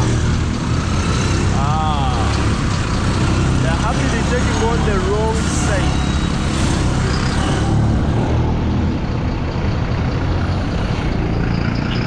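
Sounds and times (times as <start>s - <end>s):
dense road traffic: 0.0s - 12.0s.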